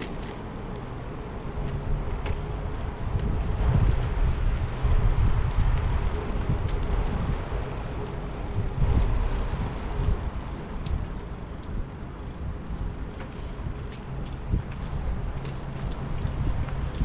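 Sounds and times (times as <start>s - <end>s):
city traffic noise: 0.0s - 17.0s
wind rumbling on microphone: 0.0s - 17.0s.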